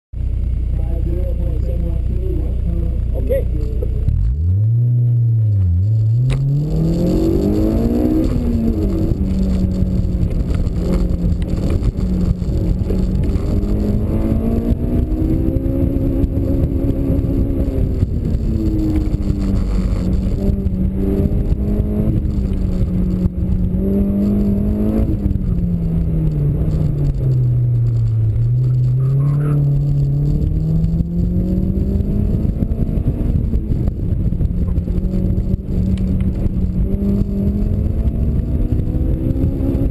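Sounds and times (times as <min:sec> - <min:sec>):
car engine revving: 0:00.2 - 0:39.9.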